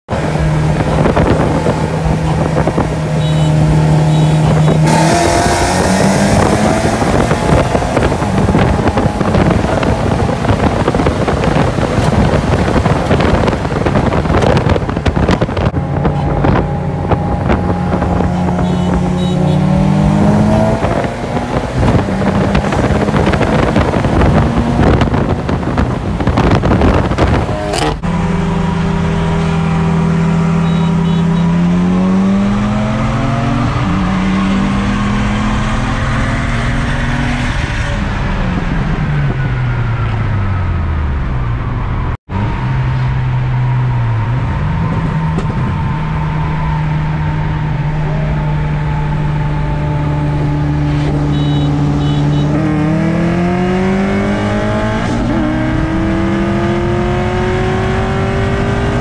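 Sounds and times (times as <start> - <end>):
car engine at full throttle: 0.0 - 59.0
wind and road noise: 0.1 - 59.0.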